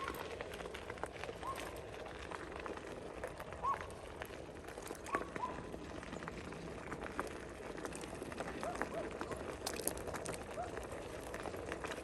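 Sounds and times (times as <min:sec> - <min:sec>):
bicycle riding: 0:00.0 - 0:12.0.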